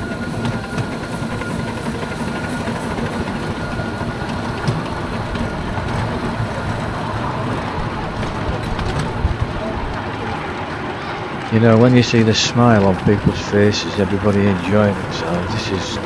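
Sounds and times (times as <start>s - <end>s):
miniature steam locomotive running: 0.0s - 16.0s
wheel and rail clatter: 0.0s - 16.0s.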